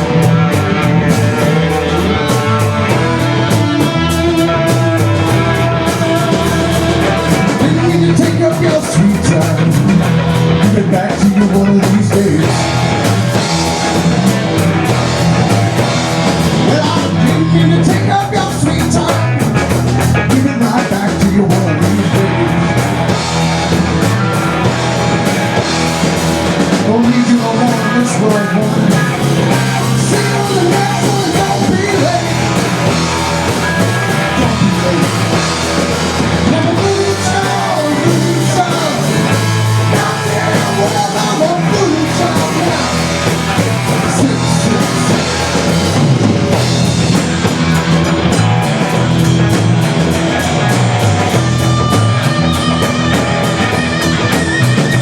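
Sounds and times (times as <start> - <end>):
rock music with electric guitar: 0.0 - 55.0.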